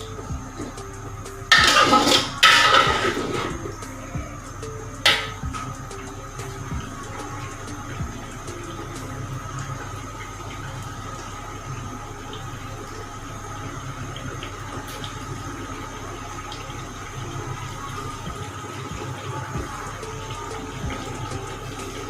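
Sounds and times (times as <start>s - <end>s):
food sizzling and bubbling in a pot: 0.0s - 22.0s.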